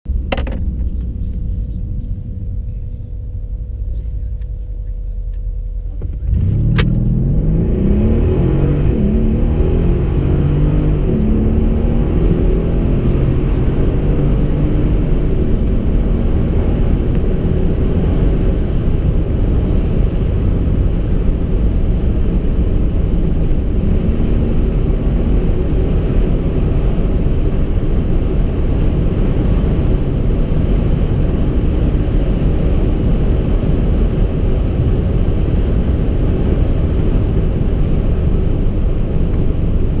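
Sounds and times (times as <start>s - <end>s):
car engine and road rumble inside: 0.1s - 40.0s.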